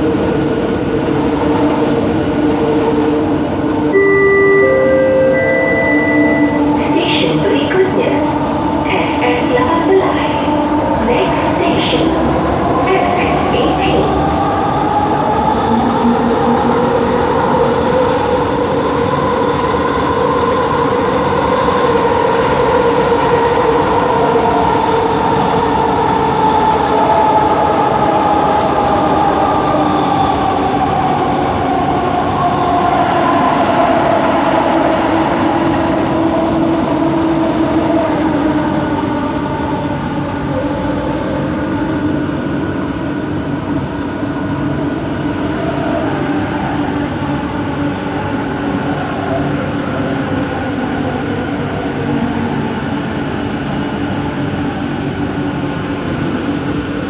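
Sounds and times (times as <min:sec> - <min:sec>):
train ride rumble: 0:00.0 - 0:57.0.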